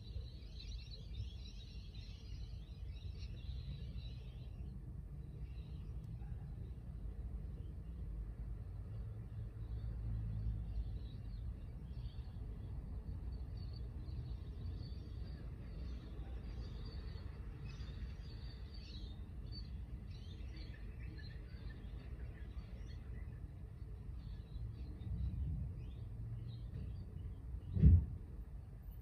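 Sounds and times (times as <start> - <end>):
small birds chirping: 0.0 - 27.8
low outdoor rumble: 2.8 - 29.0.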